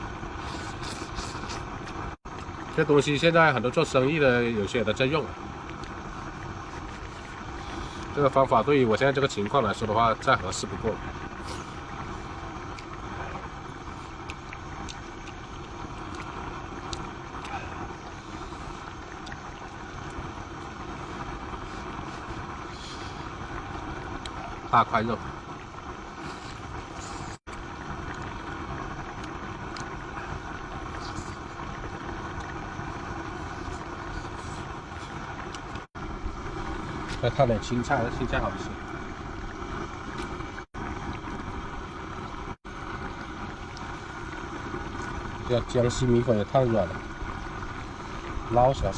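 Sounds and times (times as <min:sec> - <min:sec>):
gas burner rushing: 0:00.0 - 0:48.9.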